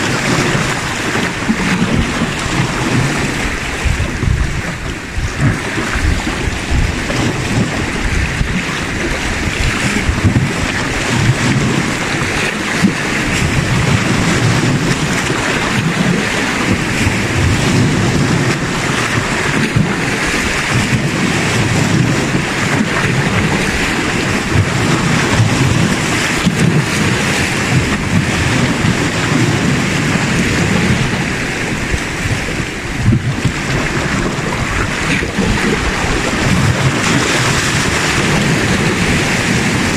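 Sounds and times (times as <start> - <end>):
waves washing against rocks: 0.0 - 39.9
wind buffeting microphone: 0.0 - 39.9.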